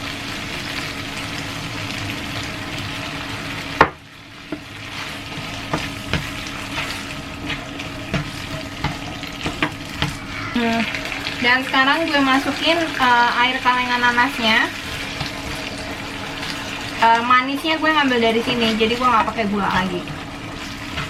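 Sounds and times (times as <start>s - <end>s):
sauce sizzling in a wok: 0.0s - 21.0s.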